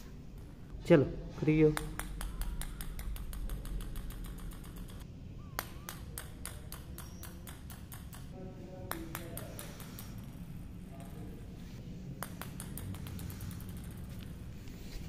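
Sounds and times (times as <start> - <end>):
toy ball clicking on tiles: 1.7 - 14.8.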